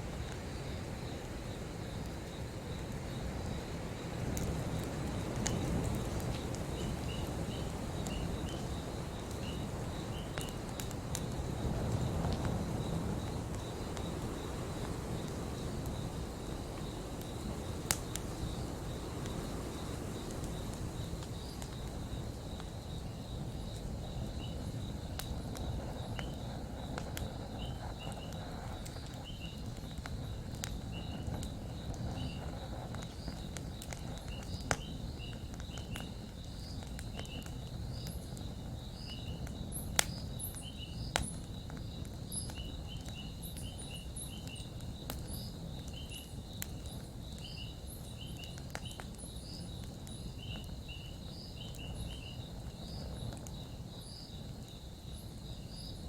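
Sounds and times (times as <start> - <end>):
campfire flames rushing: 0.0 - 56.0
fire crackling pops: 0.0 - 56.0.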